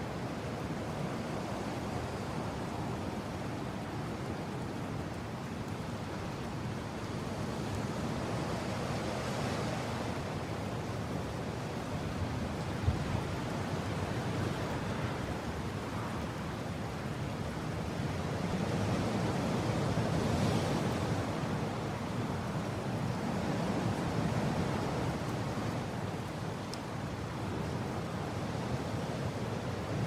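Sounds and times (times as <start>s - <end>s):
mountain wind blowing: 0.0s - 30.0s.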